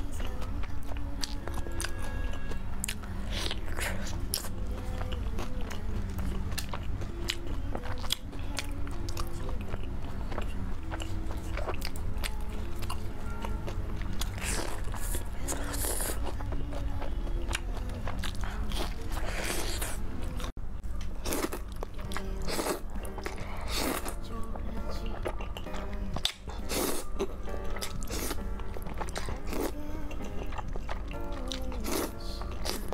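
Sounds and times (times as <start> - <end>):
background music: 0.0 - 32.9.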